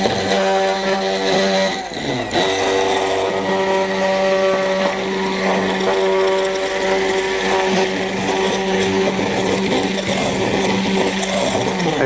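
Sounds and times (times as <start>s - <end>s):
immersion blender motor humming: 0.0s - 12.0s.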